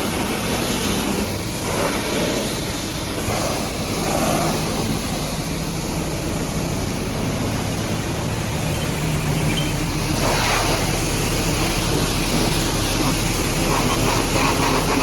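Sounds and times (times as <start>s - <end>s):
pressure washer spraying water: 0.0s - 15.0s.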